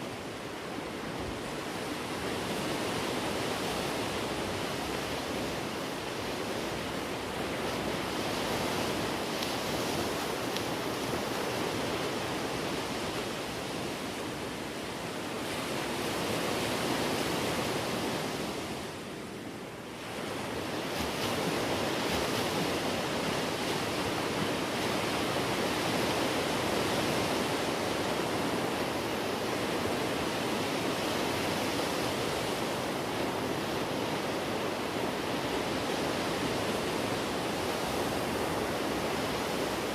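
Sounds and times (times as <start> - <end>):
sea rushing: 0.0 - 39.9
wind: 0.0 - 39.9.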